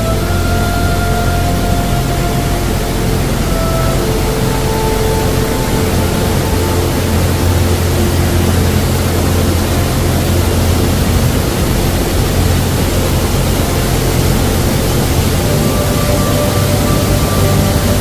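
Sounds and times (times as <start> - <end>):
river rapids roaring: 0.0 - 18.0.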